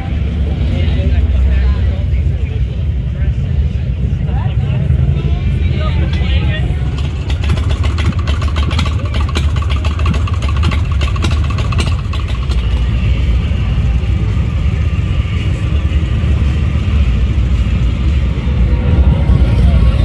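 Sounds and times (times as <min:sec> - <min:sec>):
motorcycle engines revving: 0:00.0 - 0:20.0
exhaust crackles: 0:01.1 - 0:20.0.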